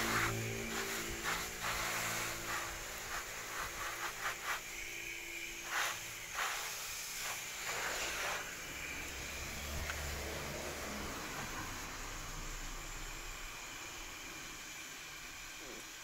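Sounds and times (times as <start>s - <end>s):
hose spraying water on leaves: 0.0s - 16.0s.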